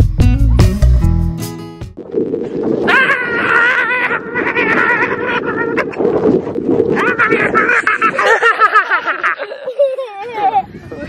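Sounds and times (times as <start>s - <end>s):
wind on microphone: 2.0s - 11.0s.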